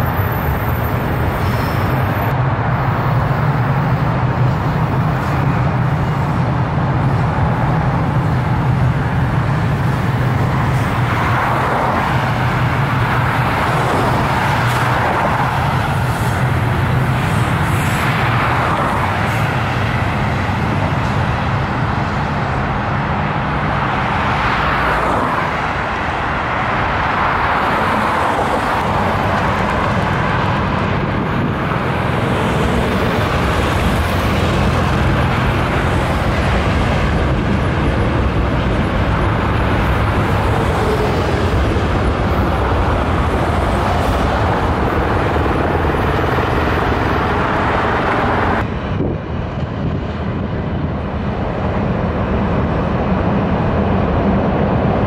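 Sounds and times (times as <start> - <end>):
road traffic: 0.0 - 55.0
train running over steel bridge: 0.0 - 55.0.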